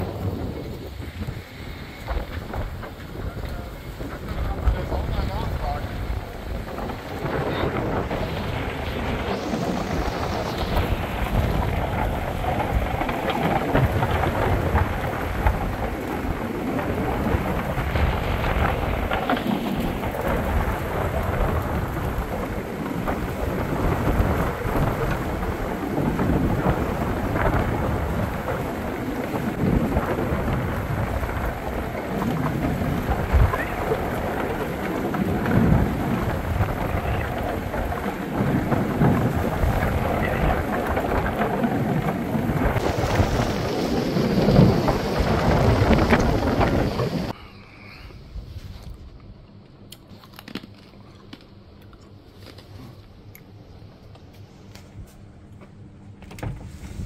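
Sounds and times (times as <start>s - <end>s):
wind buffeting microphone: 0.0s - 49.3s, 56.3s - 57.0s.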